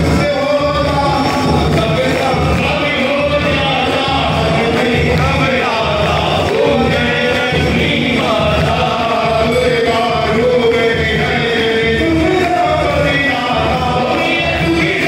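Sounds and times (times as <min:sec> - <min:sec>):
devotional music: 0:00.0 - 0:15.0
group singing a hymn: 0:00.0 - 0:15.0.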